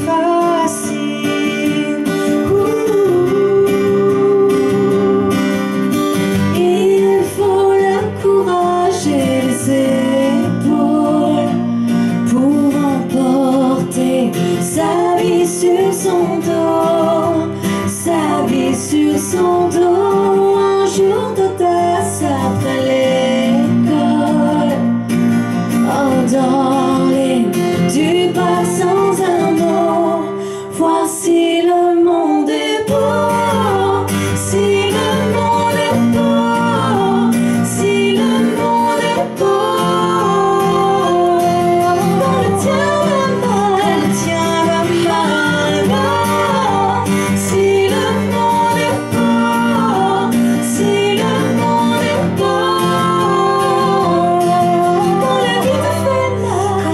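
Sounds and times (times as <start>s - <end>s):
acoustic guitars: 0.0s - 56.9s
women singing: 0.0s - 56.9s.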